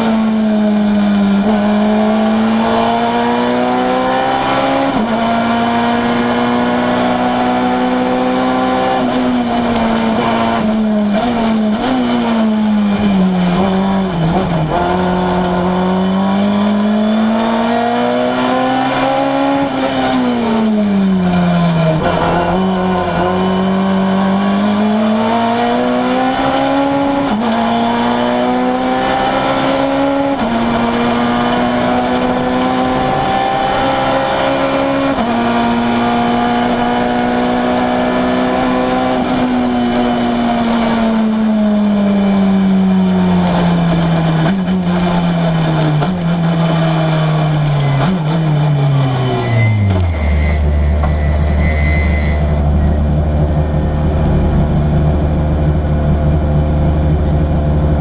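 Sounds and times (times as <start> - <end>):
rally car engine at high revs: 0.0 - 58.0.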